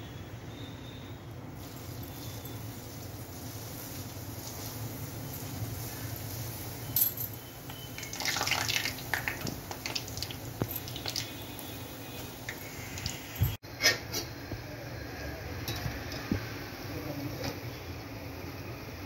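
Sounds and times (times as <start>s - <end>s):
dough deep-frying in oil: 0.4s - 19.0s.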